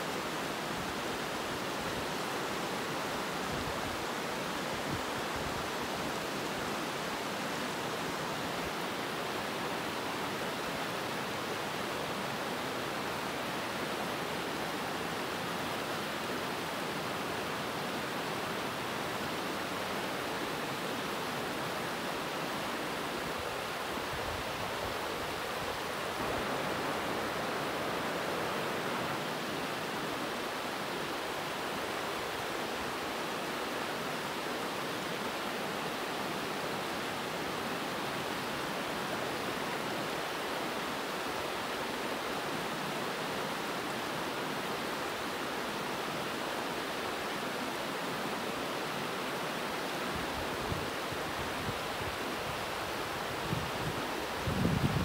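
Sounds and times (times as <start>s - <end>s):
river rushing over rapids: 0.0s - 55.0s.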